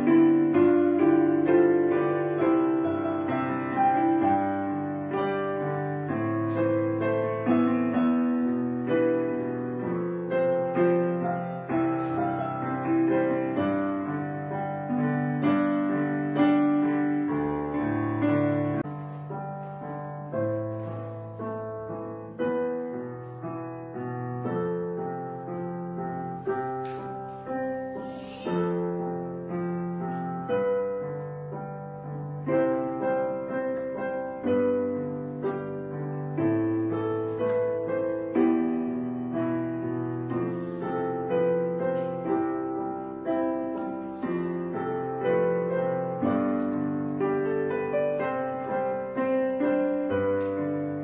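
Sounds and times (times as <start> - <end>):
slow piano piece: 0.0 - 51.0.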